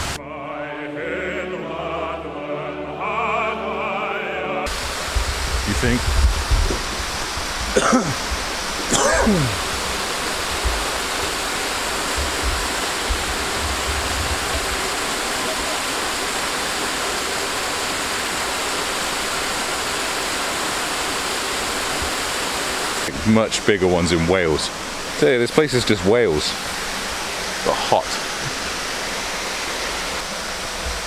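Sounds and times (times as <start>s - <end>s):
small waterfall splashing into pool: 4.7s - 31.0s.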